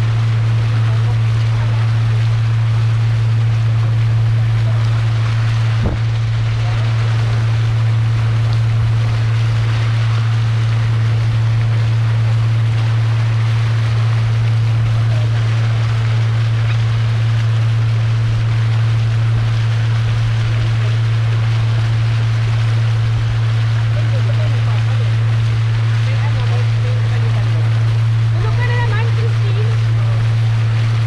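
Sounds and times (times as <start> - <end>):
boat motor droning: 0.0 - 31.0
wind and water hiss: 0.0 - 31.0.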